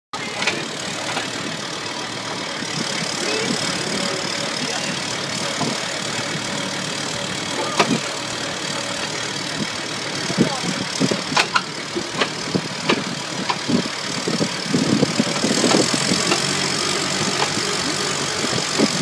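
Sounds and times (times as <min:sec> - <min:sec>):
tractor engine running: 0:00.1 - 0:19.0
faint voices: 0:00.2 - 0:19.0.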